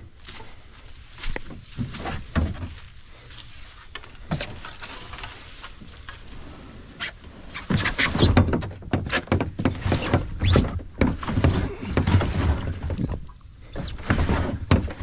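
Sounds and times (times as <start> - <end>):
kayak paddle knocking and scraping: 1.2 - 3.0, 3.8 - 15.0.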